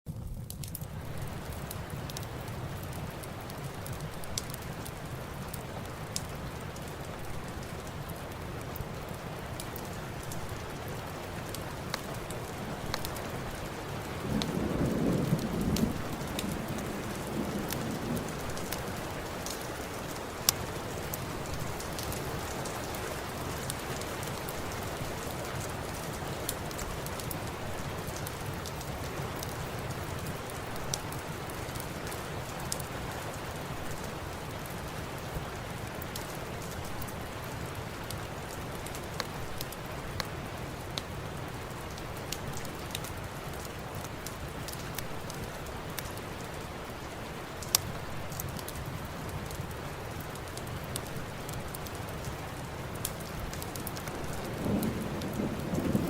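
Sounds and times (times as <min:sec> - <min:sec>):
steady rain hiss: 0:00.1 - 0:56.0.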